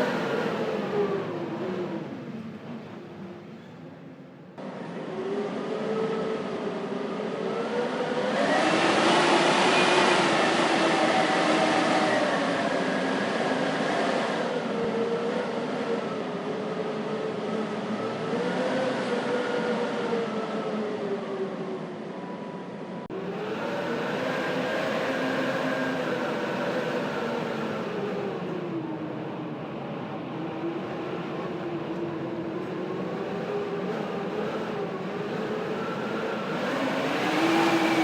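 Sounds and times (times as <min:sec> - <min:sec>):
blizzard wind howling: 0:00.0 - 0:38.0.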